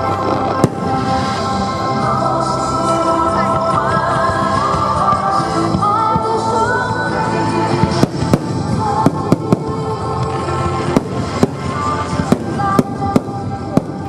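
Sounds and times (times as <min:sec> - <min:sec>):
fireworks bursting: 0:00.0 - 0:06.6, 0:07.5 - 0:14.0
music playing: 0:00.0 - 0:14.0.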